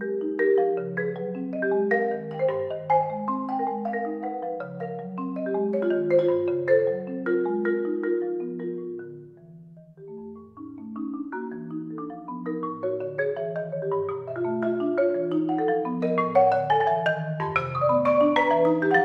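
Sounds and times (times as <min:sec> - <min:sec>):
marimba notes: 0:00.0 - 0:19.0.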